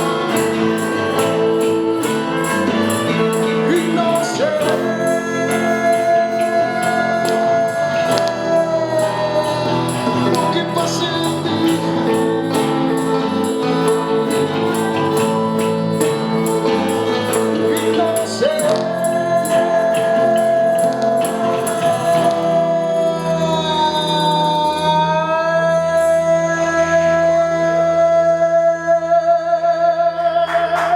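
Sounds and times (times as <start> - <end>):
live rock band playing: 0.0 - 25.0
tambourine beat: 0.0 - 27.1.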